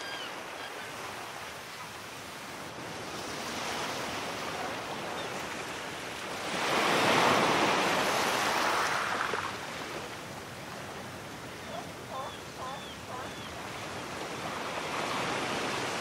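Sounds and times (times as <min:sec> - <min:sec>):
waves washing up beach: 0:01.0 - 0:16.0.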